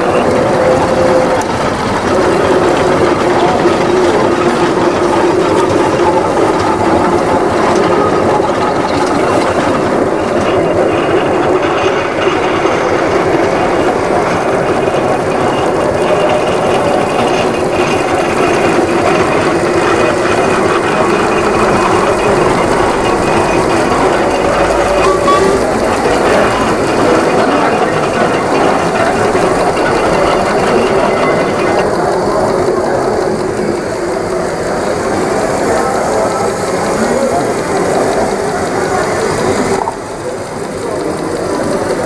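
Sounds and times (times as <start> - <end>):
model machinery whirring and clicking: 0.0 - 42.0.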